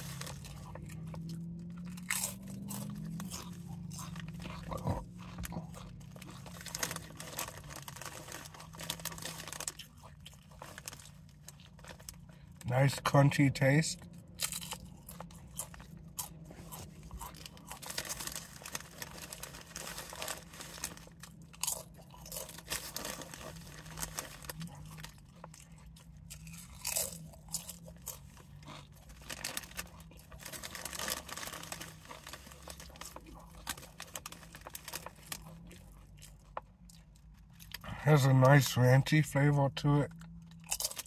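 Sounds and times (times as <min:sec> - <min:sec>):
chips crunching while chewed: 0:00.0 - 0:13.0, 0:14.3 - 0:37.9, 0:40.1 - 0:41.0.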